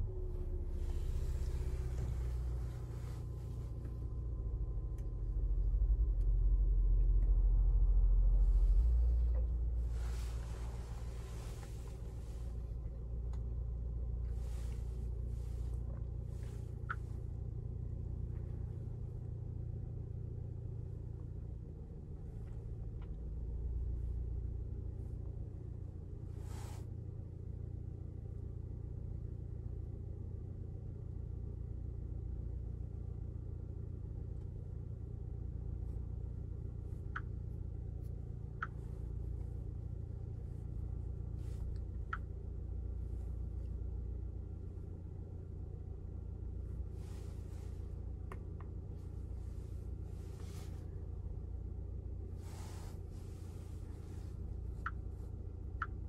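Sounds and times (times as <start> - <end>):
car rumbling on the move: 0.0 - 56.0.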